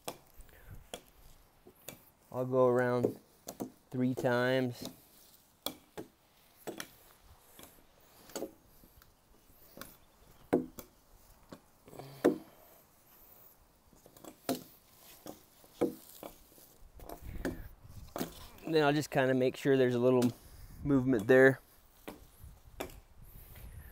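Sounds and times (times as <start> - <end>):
rope rubbing on wooden poles: 0.0 - 19.3, 20.2 - 23.9.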